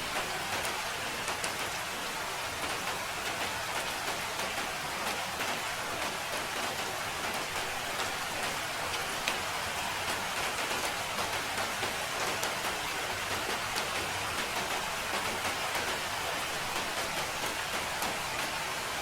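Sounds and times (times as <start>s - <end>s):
raindrops ticking on a surface: 0.0s - 19.0s
steady rain falling: 0.0s - 19.0s.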